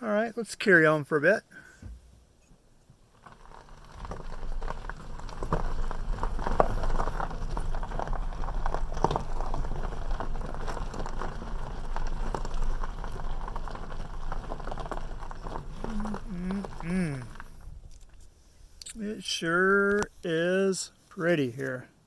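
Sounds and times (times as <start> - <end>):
low steady hum: 0.1 - 21.2
tyres crunching over gravel: 3.0 - 21.8.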